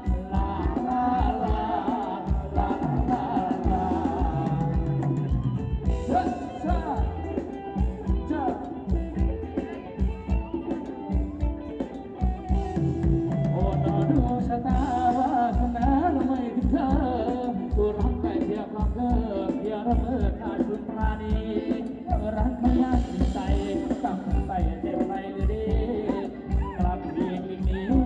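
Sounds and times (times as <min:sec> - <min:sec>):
live band dance music: 0:00.0 - 0:28.0.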